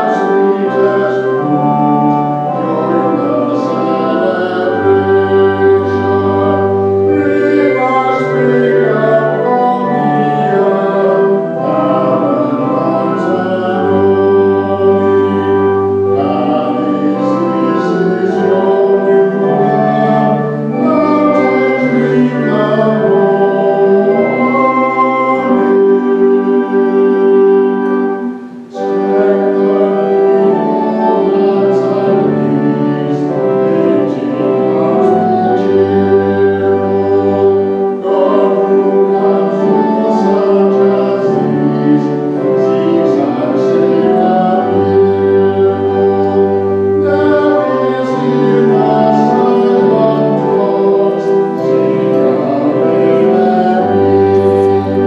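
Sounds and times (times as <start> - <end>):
organ playing chords: 0.0 - 55.0
voices singing a hymn: 0.0 - 55.0.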